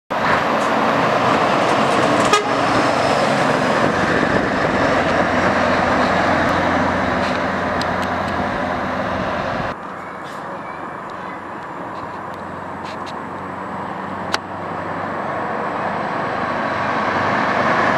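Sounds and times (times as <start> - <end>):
street noise: 0.1 - 17.9
diesel truck driving past: 0.2 - 17.9.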